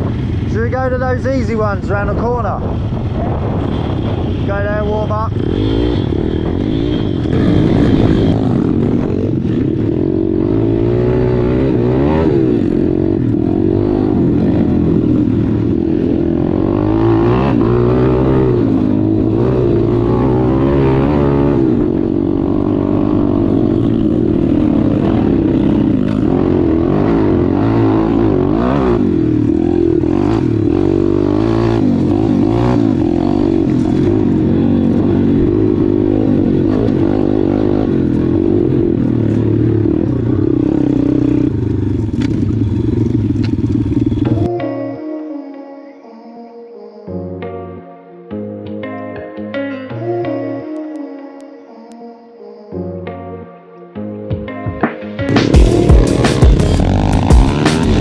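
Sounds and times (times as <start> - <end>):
motorbike engine revving: 0.0 - 44.5, 55.3 - 58.0.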